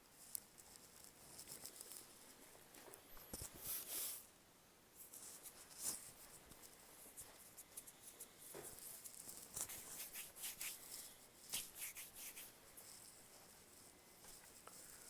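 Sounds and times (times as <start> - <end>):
faint rustling and scratching: 0.0 - 15.0.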